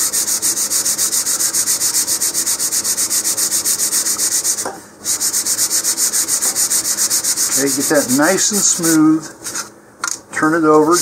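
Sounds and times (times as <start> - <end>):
sandpaper scraping wood: 0.0 - 9.7, 10.6 - 11.0.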